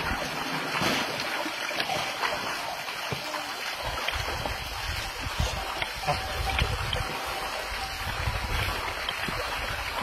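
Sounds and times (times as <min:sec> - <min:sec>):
water gushing and splashing: 0:00.0 - 0:10.0.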